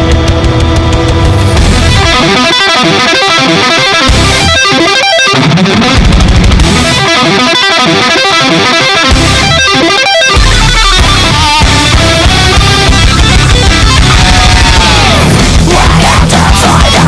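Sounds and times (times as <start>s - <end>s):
loud music with electric guitar: 0.0s - 17.0s.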